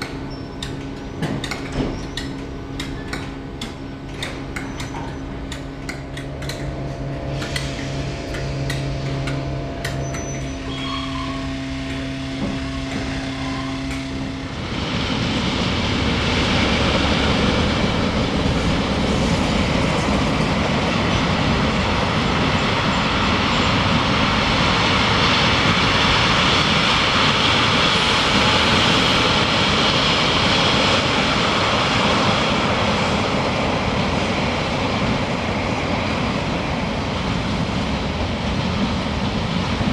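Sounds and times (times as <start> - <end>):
train passing at speed: 0.0 - 39.9.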